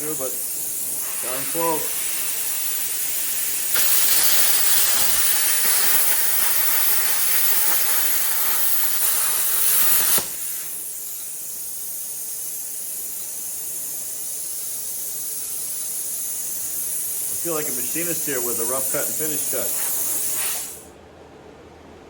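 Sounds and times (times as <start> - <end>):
air hissing: 0.0 - 20.9
plasma cutter hissing: 0.0 - 20.9.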